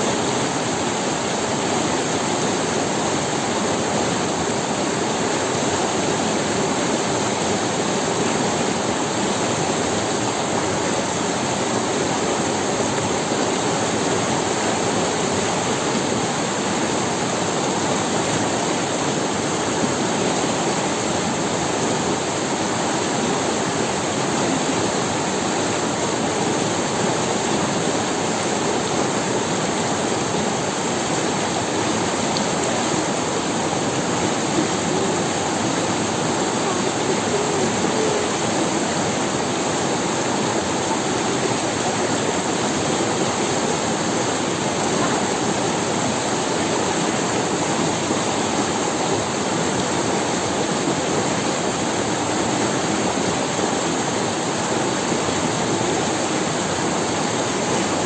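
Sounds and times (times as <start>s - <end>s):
river running over stones: 0.0s - 58.0s.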